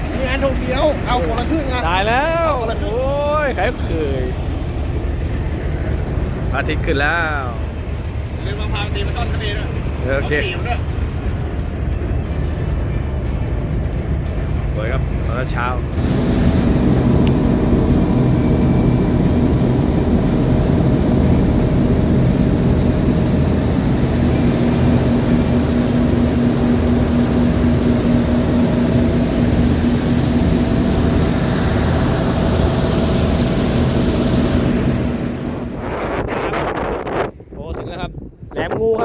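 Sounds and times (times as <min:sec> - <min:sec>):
boat engine droning: 0:00.0 - 0:37.4.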